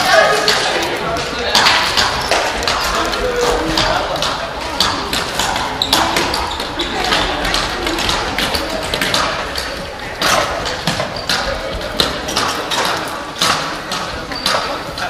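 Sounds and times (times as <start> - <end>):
children's voices and calls: 0.0 - 15.0
floorball sticks tapping ball: 0.1 - 15.0.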